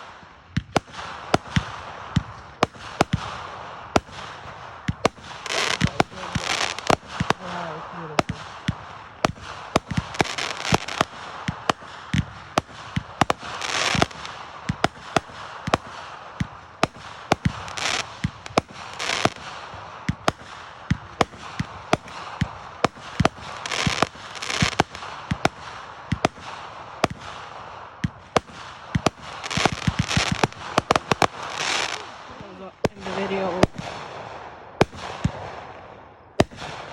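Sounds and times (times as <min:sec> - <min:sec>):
fireworks bangs and pops: 0:00.0 - 0:36.9
fireworks crackling: 0:00.0 - 0:36.9.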